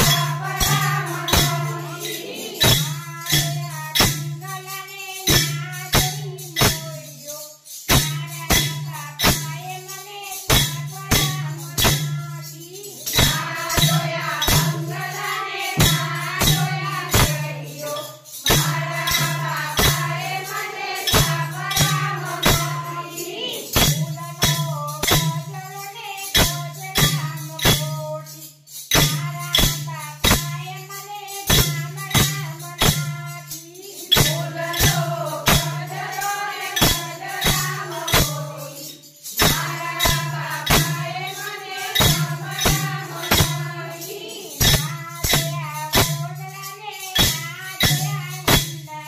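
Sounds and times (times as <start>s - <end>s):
hand clappers and rattles clacking: 0.0s - 49.0s
women singing devotional song: 0.0s - 49.0s.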